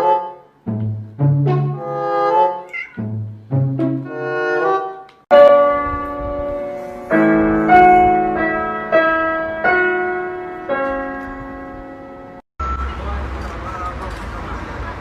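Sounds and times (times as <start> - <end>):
slow piano chords: 0.0 - 12.4.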